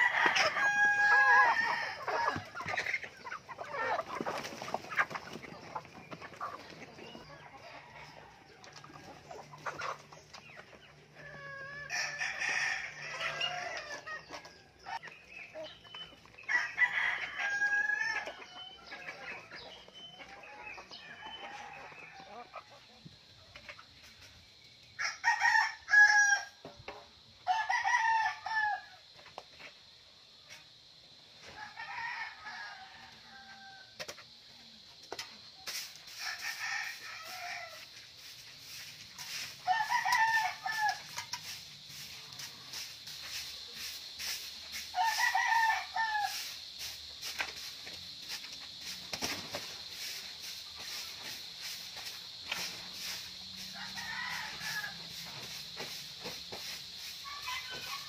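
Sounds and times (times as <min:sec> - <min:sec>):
roosters crowing: 0:00.0 - 0:10.0, 0:11.0 - 0:15.0, 0:16.3 - 0:22.6, 0:25.0 - 0:26.6, 0:27.4 - 0:29.1, 0:31.4 - 0:34.1, 0:35.7 - 0:47.3, 0:48.2 - 0:58.0
hens clucking: 0:00.0 - 0:24.3, 0:33.6 - 0:58.0.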